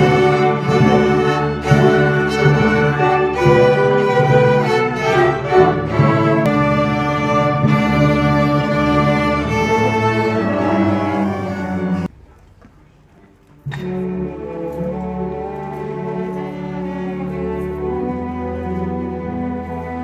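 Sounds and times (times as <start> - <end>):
string ensemble bowed notes: 0.0 - 12.2, 13.7 - 20.0.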